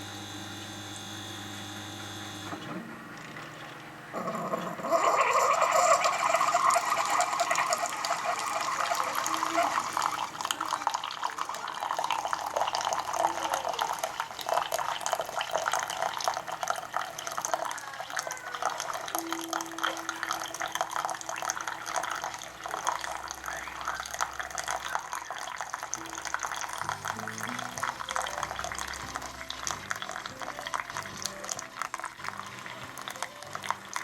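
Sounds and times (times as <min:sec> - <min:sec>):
coffee maker humming: 0:00.0 - 0:34.0
coffee streaming into cup: 0:00.0 - 0:34.0.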